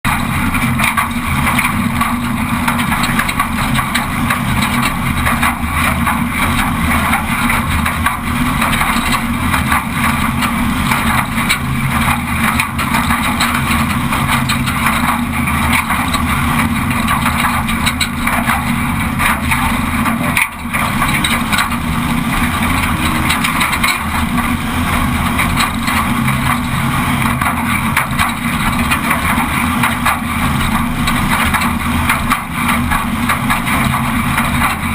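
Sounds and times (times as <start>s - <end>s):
race car engine running hard: 0.0s - 34.9s
rattles and knocks: 0.1s - 34.9s.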